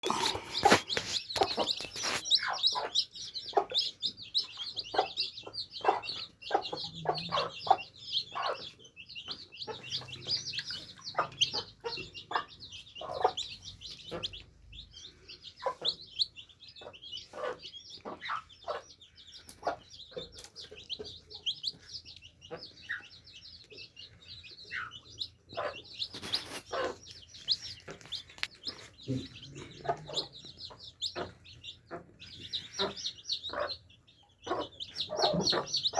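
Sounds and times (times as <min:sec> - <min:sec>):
baby chicks peeping: 0:00.0 - 0:35.9.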